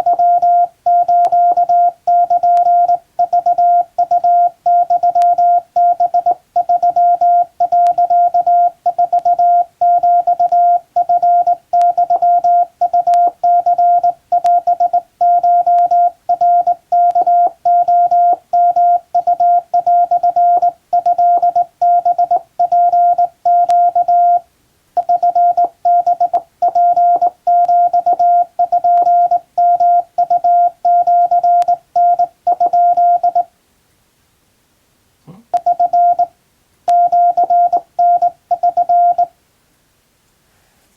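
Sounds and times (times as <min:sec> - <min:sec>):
morse code beeps: 0:00.0 - 0:24.4, 0:25.0 - 0:33.5, 0:35.5 - 0:36.3, 0:36.9 - 0:39.3.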